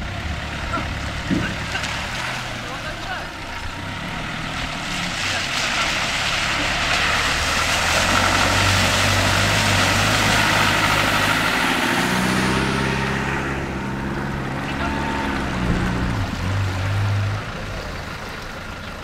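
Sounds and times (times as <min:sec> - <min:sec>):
car engine running: 0:00.0 - 0:19.0
water splashing around wheels: 0:00.0 - 0:19.0.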